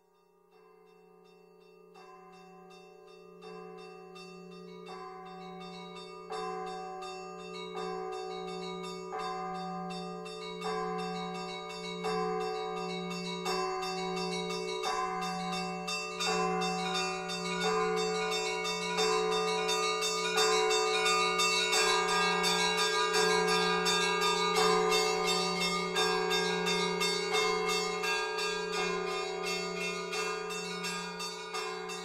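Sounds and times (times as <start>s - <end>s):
church bells pealing: 2.0s - 32.0s.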